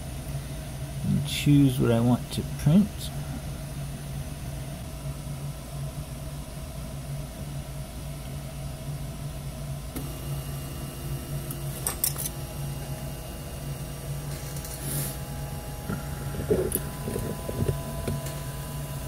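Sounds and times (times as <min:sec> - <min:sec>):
high steady whine: 0:00.0 - 0:19.0
printer humming with fans: 0:00.0 - 0:19.0.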